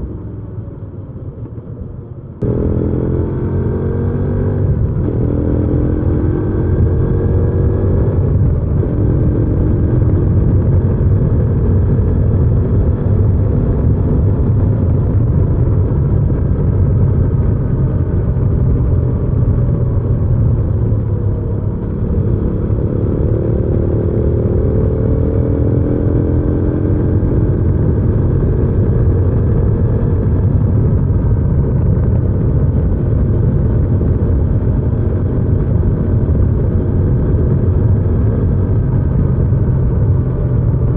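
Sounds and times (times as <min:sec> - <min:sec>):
motorcycle engine running: 0:01.6 - 0:40.9.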